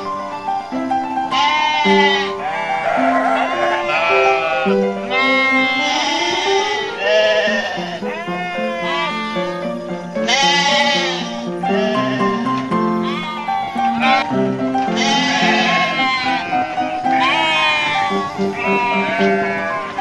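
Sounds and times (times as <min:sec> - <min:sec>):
background music held notes: 0:00.0 - 0:20.0
sheep bleating: 0:01.3 - 0:20.0.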